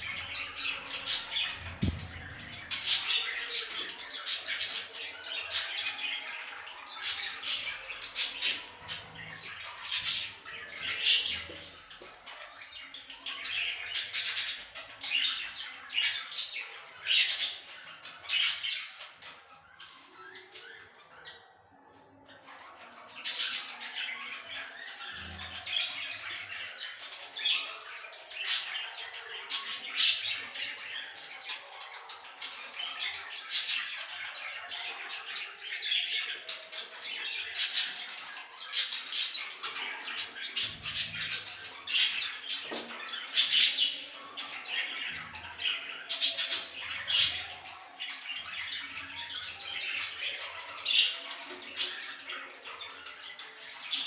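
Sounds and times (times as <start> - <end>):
budgerigars chattering and chirping: 0.0 - 21.4, 22.8 - 54.0.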